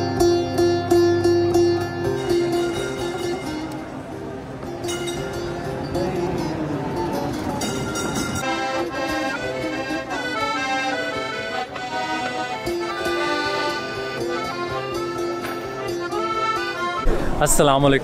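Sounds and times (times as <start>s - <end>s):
background music melody: 0.0s - 17.1s.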